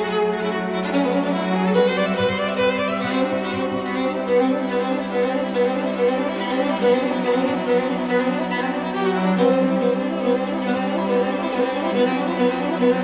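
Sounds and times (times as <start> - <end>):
string quartet playing: 0.0 - 13.0.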